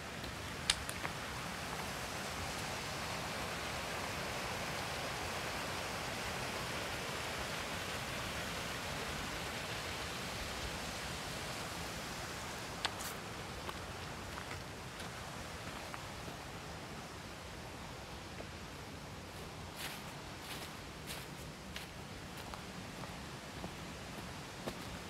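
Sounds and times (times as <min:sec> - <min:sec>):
mountain stream rushing: 0:00.0 - 0:25.0.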